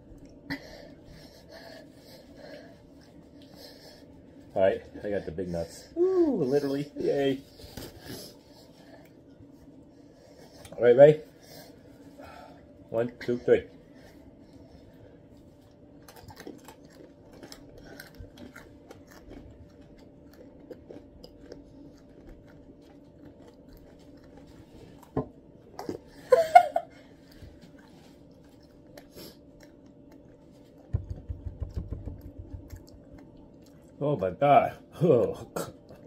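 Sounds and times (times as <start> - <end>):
people chewing peanuts: 0.0 - 36.0.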